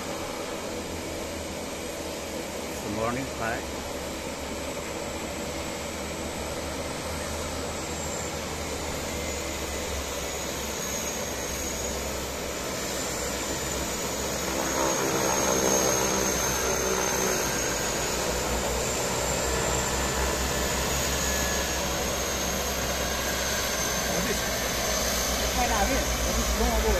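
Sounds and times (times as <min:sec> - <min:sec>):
turboprop engines whining: 0:00.0 - 0:26.9.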